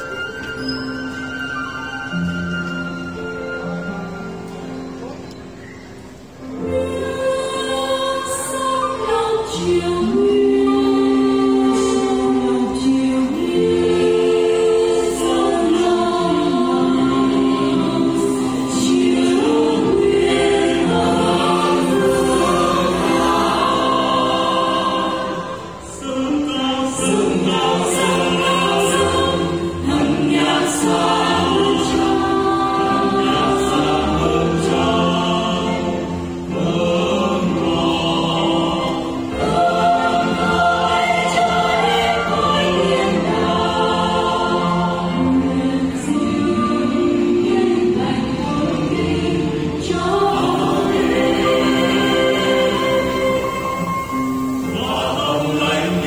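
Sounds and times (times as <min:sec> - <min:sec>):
church choir singing a hymn: 0:06.4 - 0:56.0.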